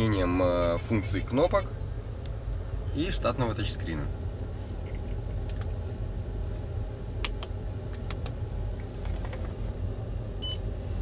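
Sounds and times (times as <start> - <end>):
low car hum: 0.0 - 11.0.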